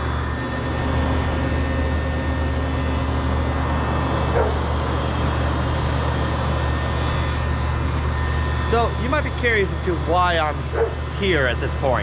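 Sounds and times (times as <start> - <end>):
forge blower humming: 0.0 - 12.0.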